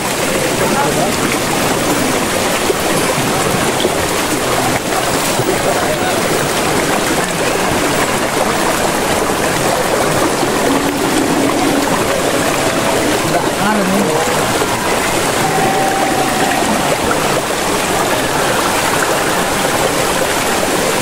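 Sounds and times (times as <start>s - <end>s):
waterfall stream rushing: 0.0s - 21.0s.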